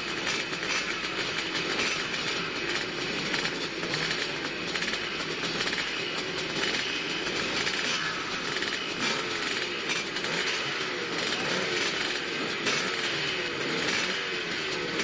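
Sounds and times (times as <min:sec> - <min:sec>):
motocross bike engines buzzing: 0:00.0 - 0:15.0.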